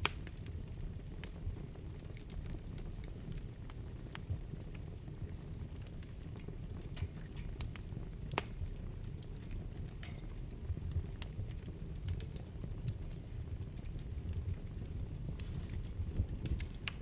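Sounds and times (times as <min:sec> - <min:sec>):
fire flames rumbling: 0:00.0 - 0:17.0
wood fire pops and crackles: 0:00.0 - 0:17.0.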